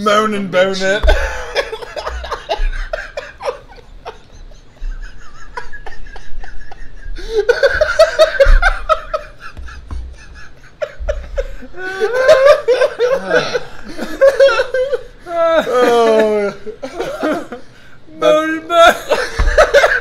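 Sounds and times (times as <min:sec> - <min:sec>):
men laughing: 0:00.8 - 0:20.0.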